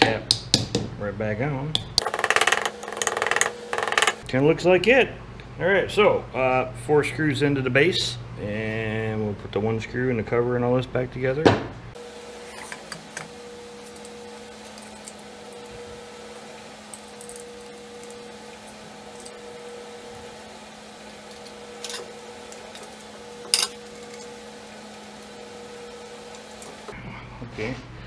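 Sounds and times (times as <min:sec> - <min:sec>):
steady low hum: 0:02.6 - 0:28.0.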